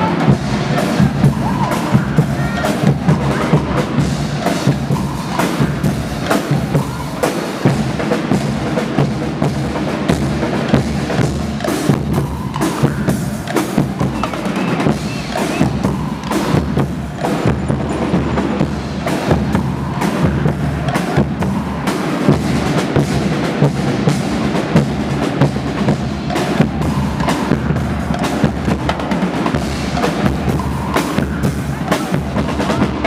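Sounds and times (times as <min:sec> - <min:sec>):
bass drums: 0:00.0 - 0:33.0
snare drums: 0:00.0 - 0:33.0.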